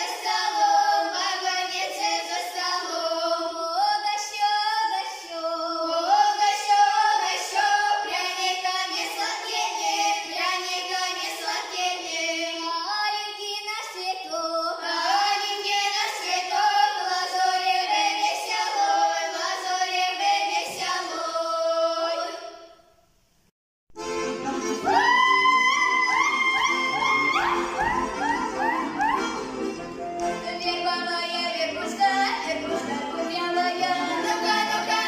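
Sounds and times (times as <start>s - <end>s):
girls singing in harmony: 0.0s - 22.8s, 24.7s - 29.4s, 30.2s - 35.0s.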